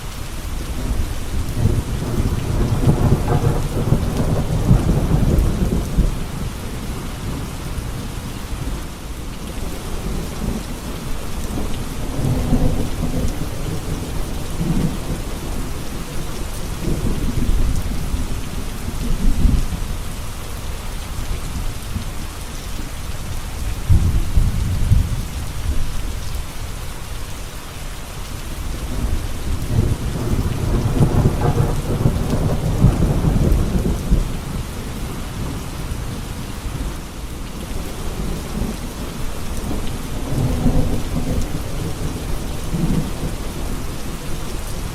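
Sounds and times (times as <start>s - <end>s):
steady rain: 0.0s - 44.9s
low rolling thunder: 0.6s - 20.0s, 23.6s - 26.4s, 28.7s - 44.9s.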